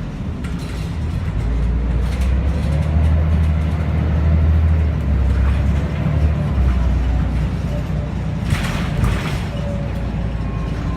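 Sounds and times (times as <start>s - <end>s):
bus engine droning: 0.0s - 10.9s.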